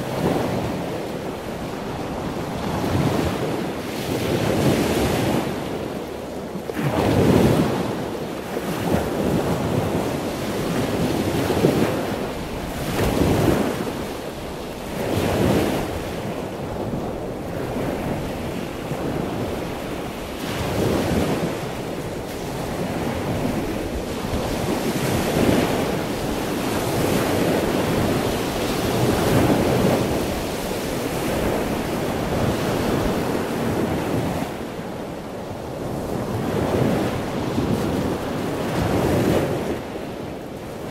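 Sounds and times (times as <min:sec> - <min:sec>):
waves washing on a shore: 0:00.0 - 0:40.9.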